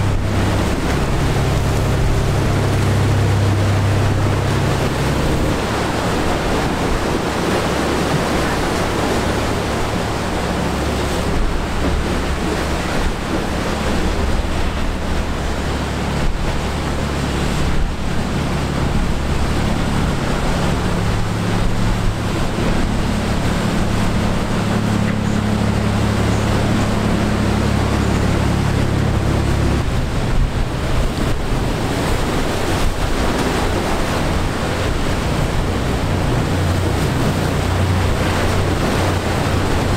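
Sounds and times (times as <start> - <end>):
boat engines droning: 0.0 - 39.9
surf: 0.0 - 39.9
wind buffeting microphone: 0.0 - 39.9.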